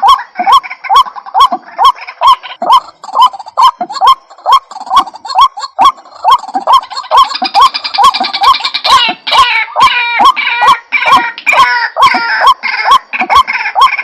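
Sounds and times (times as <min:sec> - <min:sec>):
fast high bird trill: 0:00.0 - 0:14.0
harsh layered bird notes: 0:00.0 - 0:14.0.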